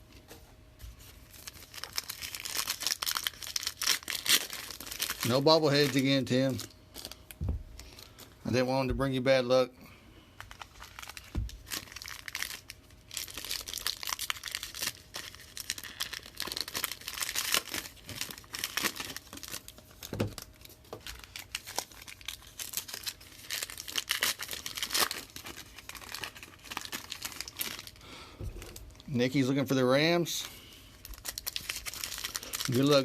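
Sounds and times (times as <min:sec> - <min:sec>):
plastic wrapping crinkling and tearing: 0:01.0 - 0:08.6, 0:10.4 - 0:33.0.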